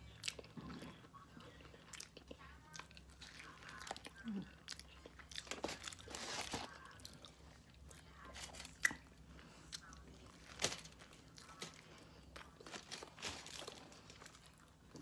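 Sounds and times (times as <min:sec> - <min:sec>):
chewing and mouth sounds: 0:00.0 - 0:15.0.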